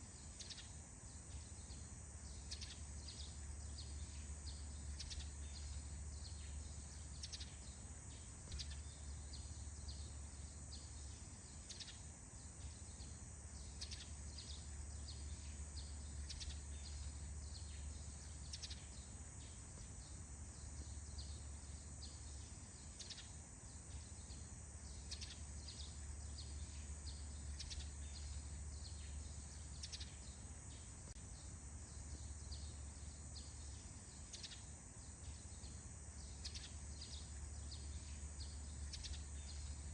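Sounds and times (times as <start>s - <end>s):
faint steady high hiss: 0.0s - 39.9s
small birds chirping: 0.0s - 39.9s.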